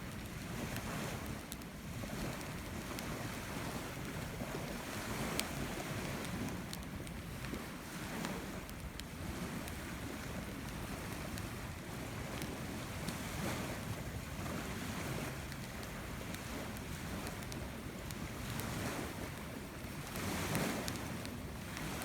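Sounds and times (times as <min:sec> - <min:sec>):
wood crackling and popping: 0:00.0 - 0:13.3, 0:15.3 - 0:22.0.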